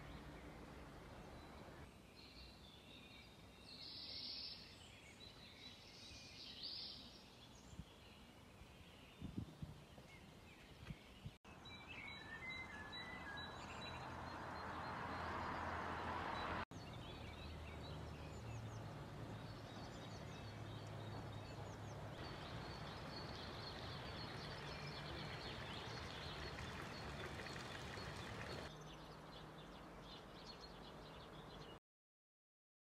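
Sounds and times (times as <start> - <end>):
small birds chirping: 0.0 - 31.8.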